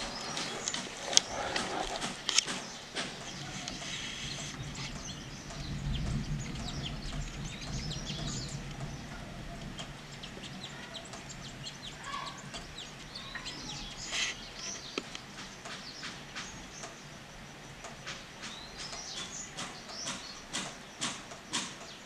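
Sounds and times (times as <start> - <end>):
birds chattering: 0.0 - 22.0.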